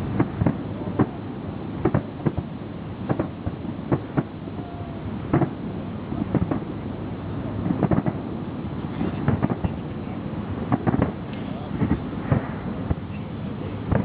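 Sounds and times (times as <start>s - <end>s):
fireworks exploding: 0.0s - 1.2s, 1.8s - 6.7s, 7.6s - 8.3s, 9.0s - 9.9s, 10.5s - 14.0s
rumbling background: 0.0s - 14.0s.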